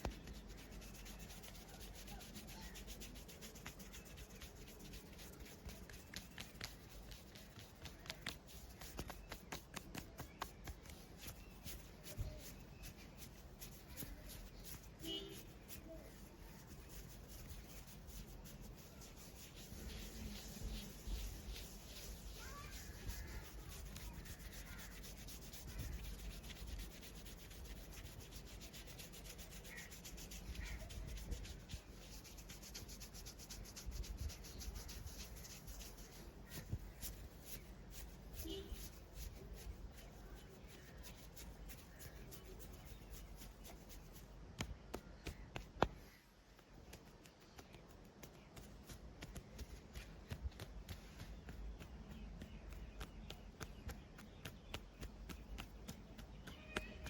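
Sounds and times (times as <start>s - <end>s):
hands rubbing over body: 0.0s - 57.0s.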